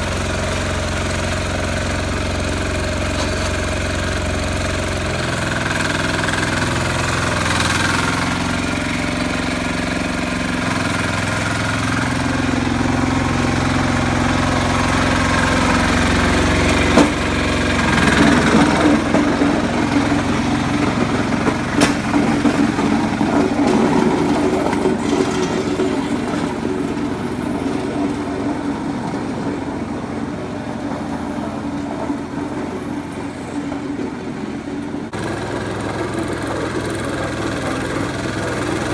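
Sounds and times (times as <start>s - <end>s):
diesel engine knocking: 0.0s - 38.9s
rough mechanical noise: 0.0s - 38.9s.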